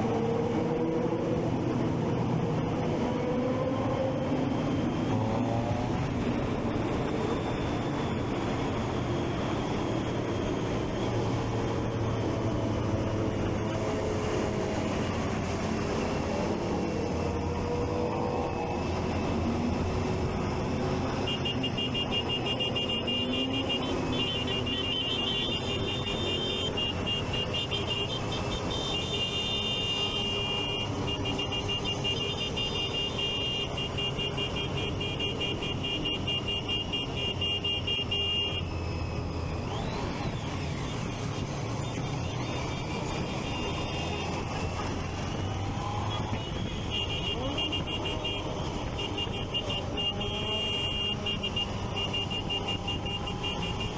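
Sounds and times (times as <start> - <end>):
traffic: 0.0 - 53.9.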